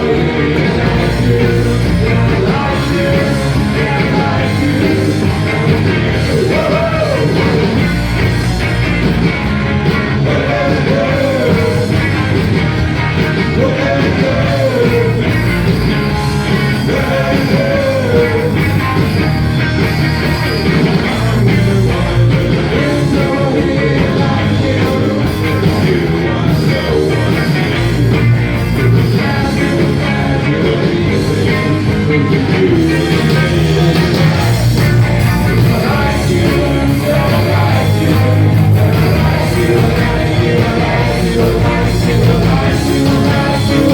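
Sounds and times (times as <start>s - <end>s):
rock band with singing: 0.0s - 43.9s.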